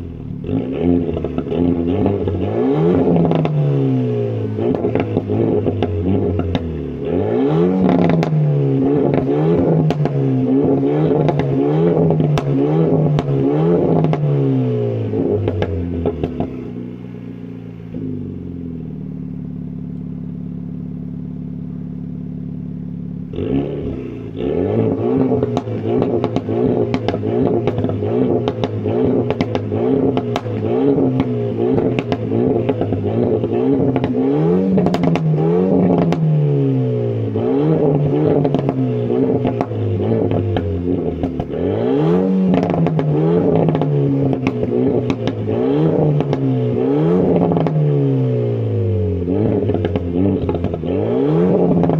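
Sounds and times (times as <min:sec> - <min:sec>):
car engine revving: 0:00.0 - 0:51.9
exhaust crackles: 0:00.0 - 0:51.9.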